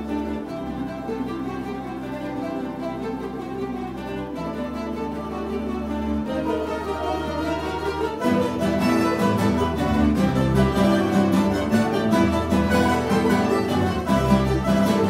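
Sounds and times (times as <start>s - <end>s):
mandolin orchestra playing: 0.0s - 15.0s.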